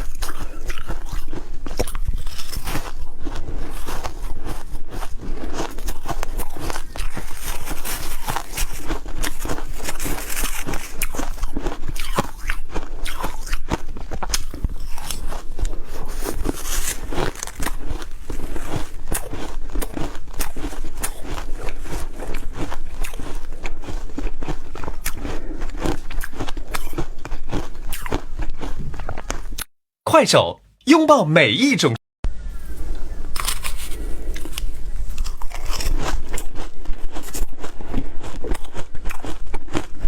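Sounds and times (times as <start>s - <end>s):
ice being chewed: 0.0s - 29.7s, 33.2s - 40.0s.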